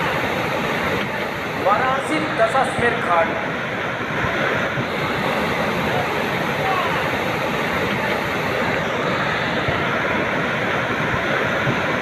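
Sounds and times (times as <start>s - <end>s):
floodwater rushing and splashing: 0.0s - 12.0s.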